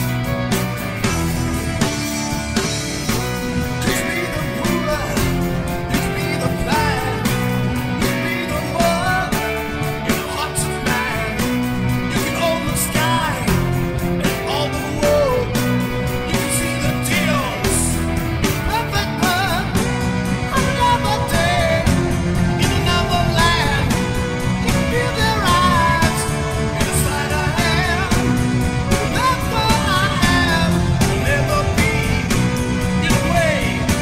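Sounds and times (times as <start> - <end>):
rock song with vocals: 0.0 - 34.0.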